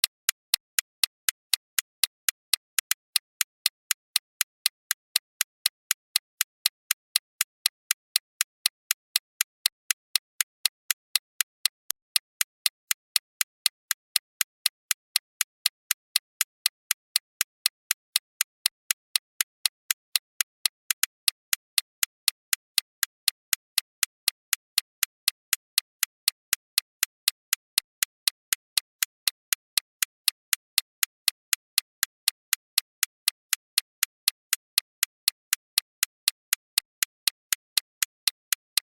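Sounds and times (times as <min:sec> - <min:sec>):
timer ticking: 0:00.0 - 0:38.9.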